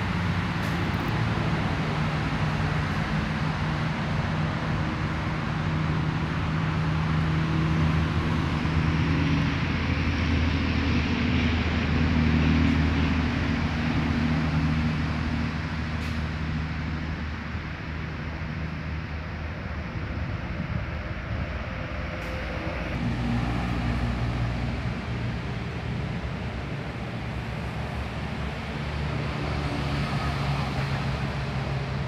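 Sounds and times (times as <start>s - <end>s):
low engine hum: 0.0s - 32.0s.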